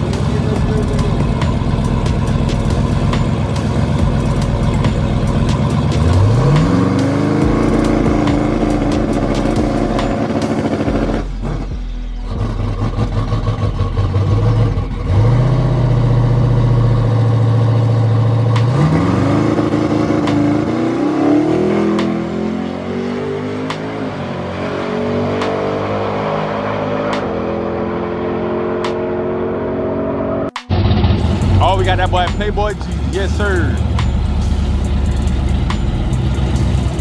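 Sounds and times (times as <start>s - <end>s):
drag car engine revving: 0.0s - 37.0s.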